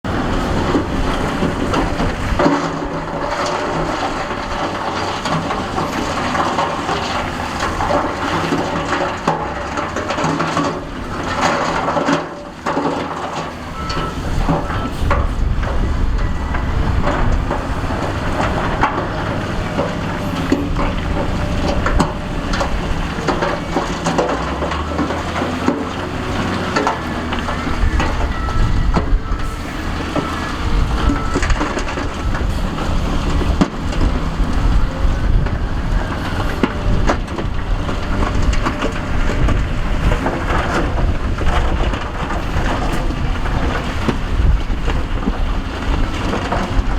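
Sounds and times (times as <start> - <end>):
heavy diesel machinery running: 0.0 - 46.9
rock and dirt crunching: 0.0 - 46.9.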